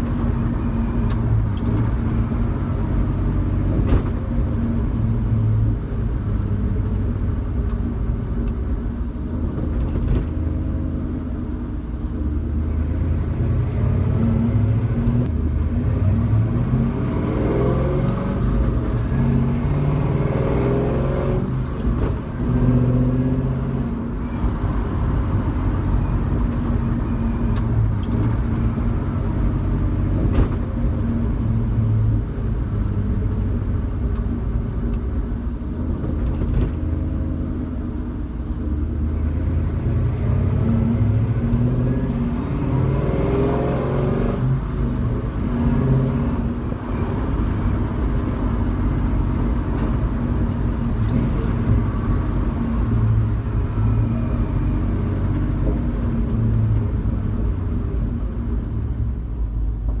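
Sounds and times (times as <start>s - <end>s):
car engine rumble: 0.0s - 60.0s
road and tyre noise: 0.0s - 60.0s.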